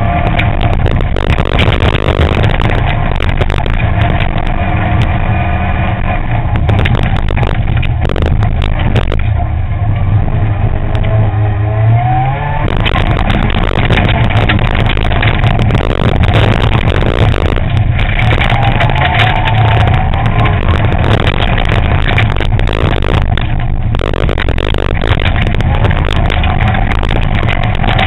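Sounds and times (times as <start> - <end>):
gravel striking car: 0.0 - 28.0
rally car engine revving: 0.0 - 28.0.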